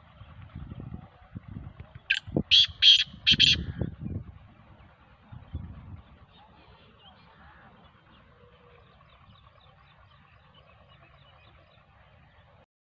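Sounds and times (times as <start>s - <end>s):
low rumble: 0.0s - 12.6s
distant birds chirping: 0.0s - 12.7s.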